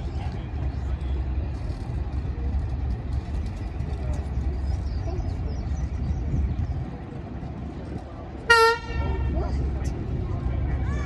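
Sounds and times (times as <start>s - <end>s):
diesel locomotive rumble: 0.0s - 11.0s.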